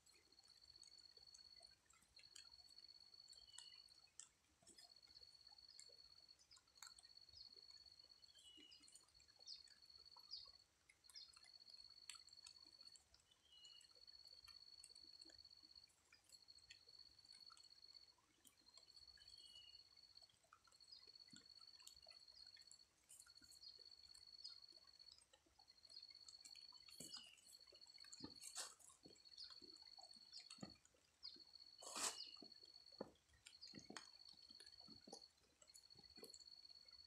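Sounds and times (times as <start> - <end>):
faint rain drips: 0.0 - 37.0.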